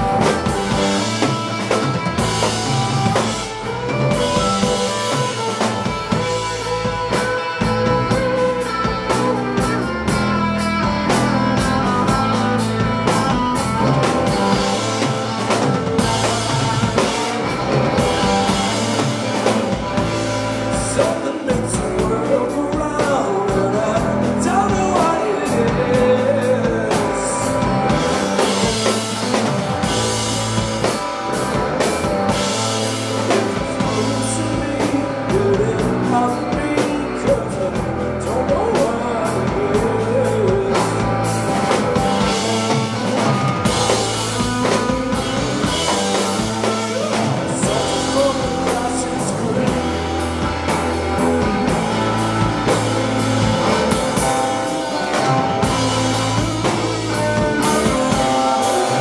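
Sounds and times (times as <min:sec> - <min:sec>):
drum kit beating: 0:00.0 - 0:59.0
rock band playing: 0:00.0 - 0:59.0.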